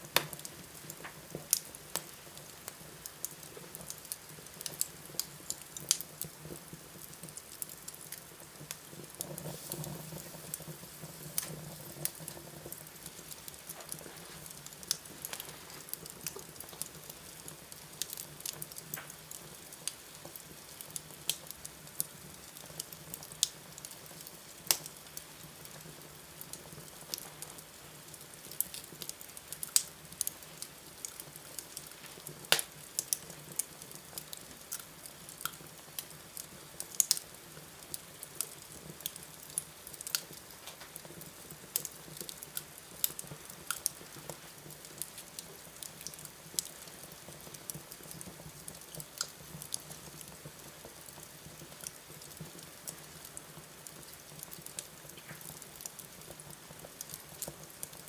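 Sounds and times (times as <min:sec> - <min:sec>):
steady hiss: 0:00.0 - 0:58.0
wood fire crackling and popping: 0:00.0 - 0:58.0.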